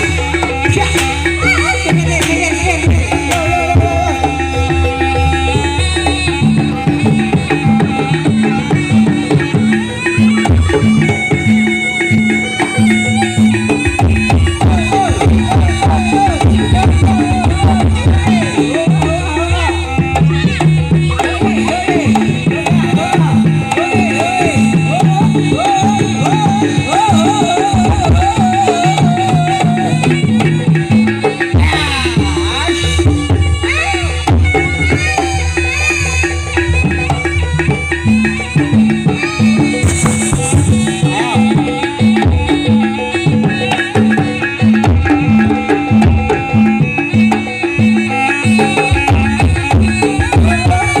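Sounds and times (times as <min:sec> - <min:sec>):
drum strokes: 0:00.0 - 0:51.0
wavering high melody: 0:00.0 - 0:51.0.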